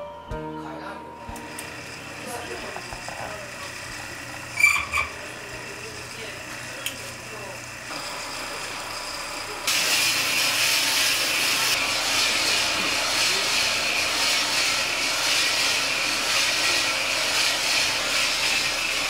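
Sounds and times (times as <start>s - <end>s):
coffee roaster rushing hiss: 1.4s - 19.0s.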